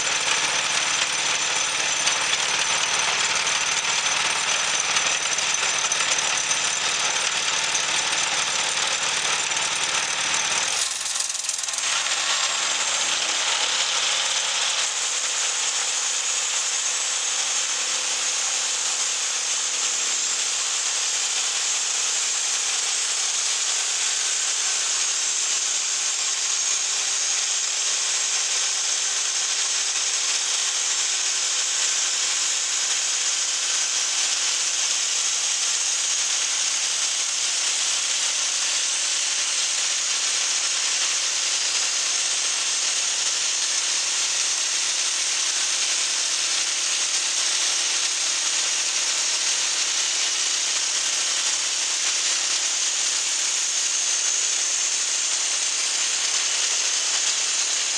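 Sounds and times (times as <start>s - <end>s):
band saw cutting log: 0.0s - 57.9s.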